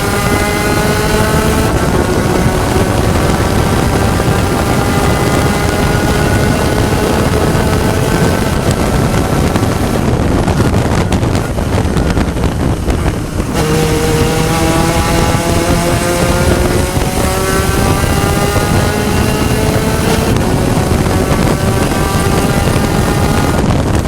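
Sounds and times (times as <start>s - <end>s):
race car engine at speed: 0.0s - 24.0s
wind rush: 0.0s - 24.0s.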